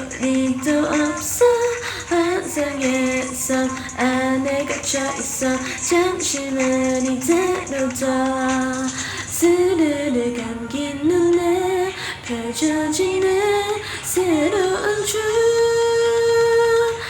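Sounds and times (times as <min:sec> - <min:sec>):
woman singing a pop song: 0:00.0 - 0:17.0.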